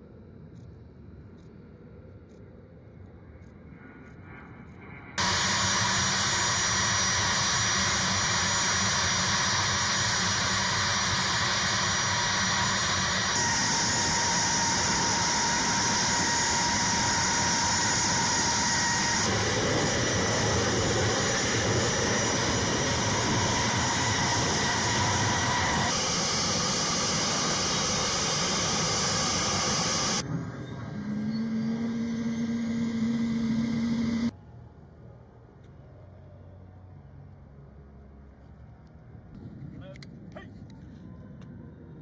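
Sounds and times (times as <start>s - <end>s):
jet engines with high whine: 0.0s - 42.0s.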